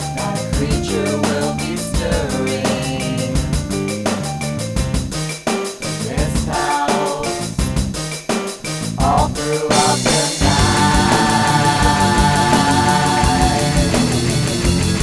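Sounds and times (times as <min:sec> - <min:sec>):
ska-like rock band music: 0:00.0 - 0:15.0.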